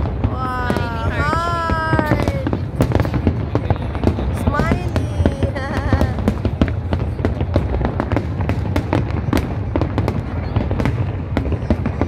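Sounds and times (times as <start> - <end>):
fireworks crackling: 0.0 - 12.0
fireworks shells exploding rumble: 0.0 - 12.0.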